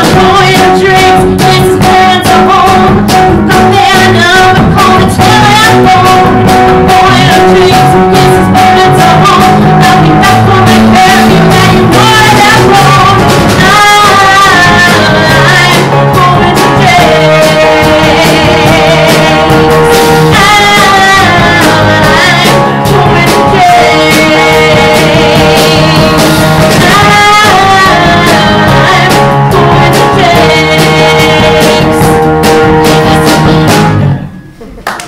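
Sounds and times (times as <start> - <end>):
woman singing: 0.0 - 34.0
live rock band: 0.0 - 34.7.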